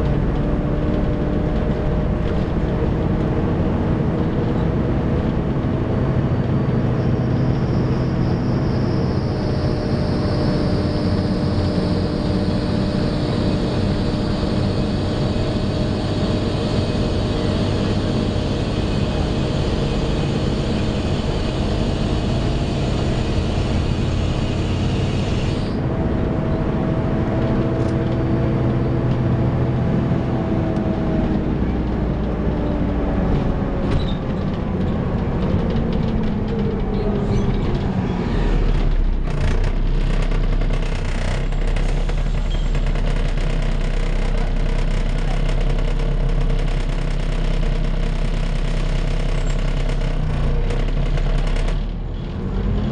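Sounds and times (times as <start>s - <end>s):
bus engine: 0.0s - 52.9s
bus engine idling: 0.0s - 52.9s.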